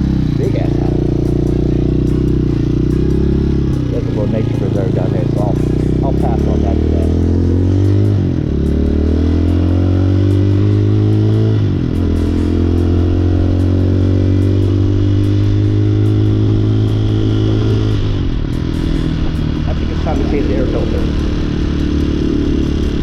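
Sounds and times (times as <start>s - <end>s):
motorcycle engine shifting gears: 0.0s - 23.0s.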